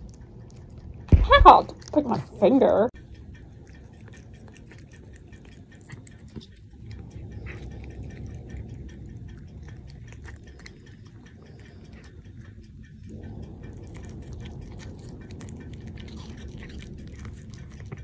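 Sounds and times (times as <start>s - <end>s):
cat chewing and licking: 0.0s - 18.0s.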